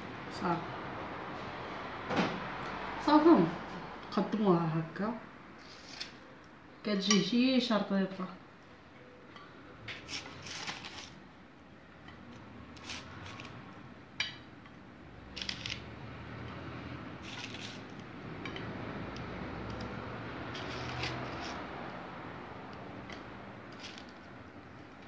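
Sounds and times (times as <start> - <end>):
low background noise: 0.0 - 25.0.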